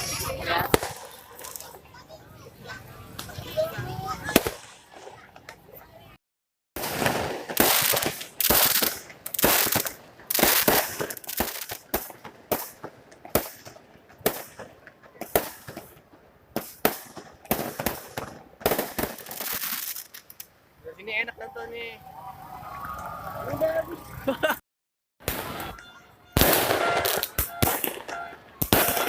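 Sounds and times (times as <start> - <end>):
fireworks banging: 0.0 - 5.8, 6.8 - 20.5, 25.2 - 29.0.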